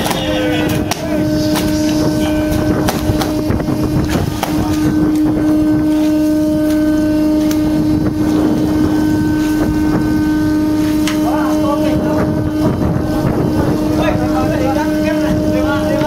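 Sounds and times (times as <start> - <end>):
rough background drone: 0.0 - 16.0
steady machine hum: 0.0 - 16.0.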